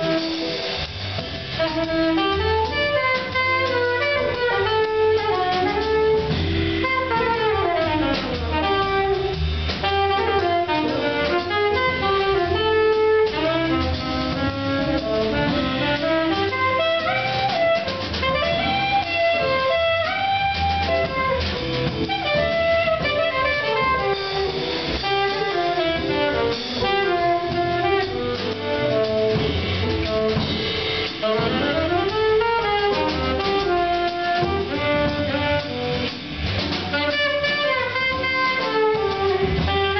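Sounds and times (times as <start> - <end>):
drum kit: 0.0 - 39.9
saxophone solo: 0.0 - 39.9
upright bass: 0.0 - 39.9.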